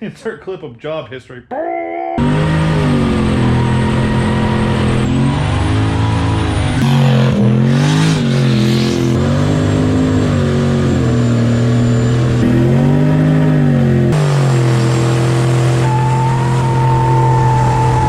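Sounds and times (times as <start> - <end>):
vehicle engine revving: 2.2 - 18.0.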